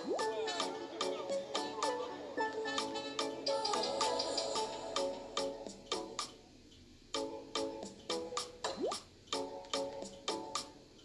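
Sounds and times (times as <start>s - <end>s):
background music with struck notes: 0.0s - 6.4s, 7.2s - 10.8s.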